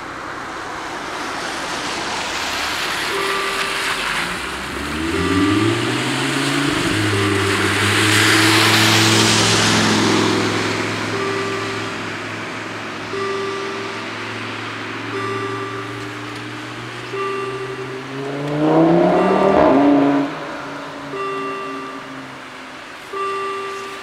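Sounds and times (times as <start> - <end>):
cars passing on wet road: 0.0 - 24.0
level crossing warning bells: 0.0 - 24.0.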